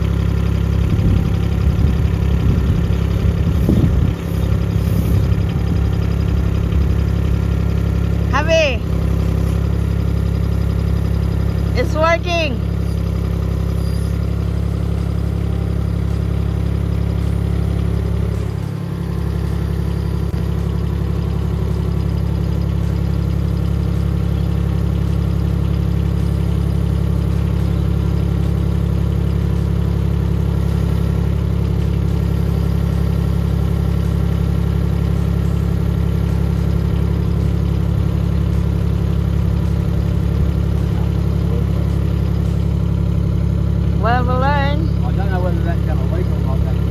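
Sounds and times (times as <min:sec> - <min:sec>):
excavator engine idling: 0:00.0 - 0:46.9.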